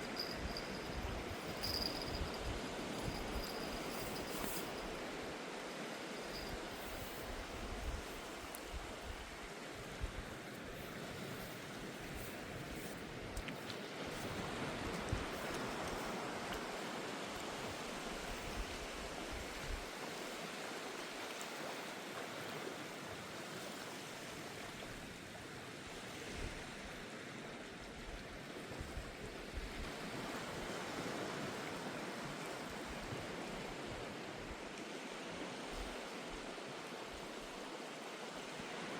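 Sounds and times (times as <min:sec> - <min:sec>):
surf washing on shore: 0:00.0 - 0:38.9.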